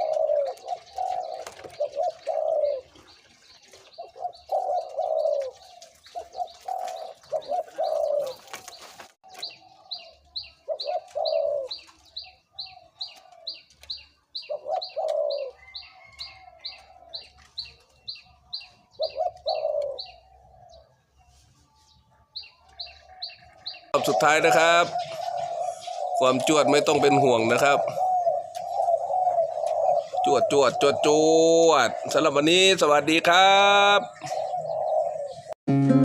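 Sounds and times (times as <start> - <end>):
dove cooing: 0.0 - 21.1, 22.3 - 35.6.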